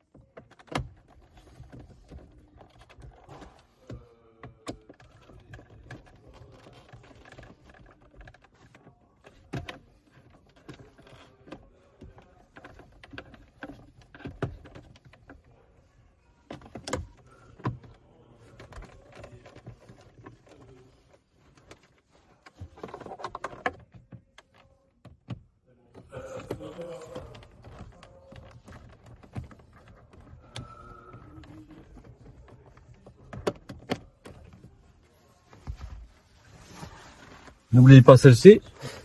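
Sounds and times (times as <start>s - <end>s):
clicks and knocks of plastic: 0.0s - 39.0s.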